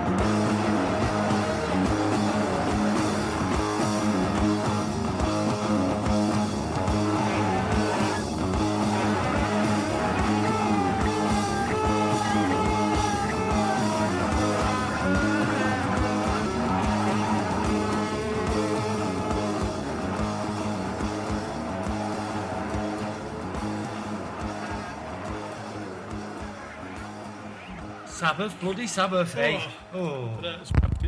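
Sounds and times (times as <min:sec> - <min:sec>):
heavy rock music: 0:00.0 - 0:29.7.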